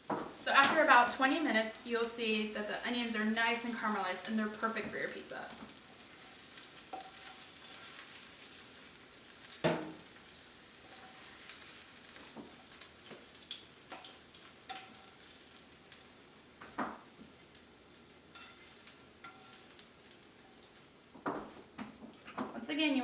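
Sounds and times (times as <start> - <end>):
onions sizzling: 0.0 - 23.0.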